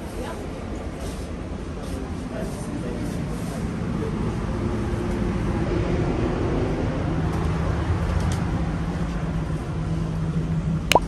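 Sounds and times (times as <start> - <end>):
train rumble and hum: 0.0 - 10.9.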